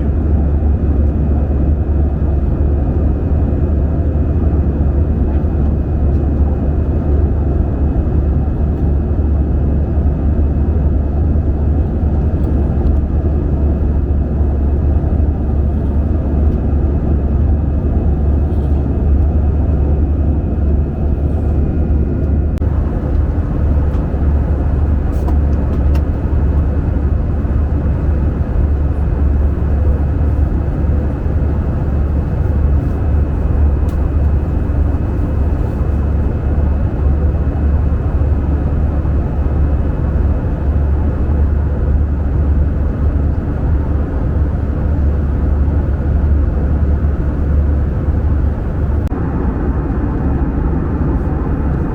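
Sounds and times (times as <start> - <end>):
aircraft cabin engine rumble: 0.0 - 51.9.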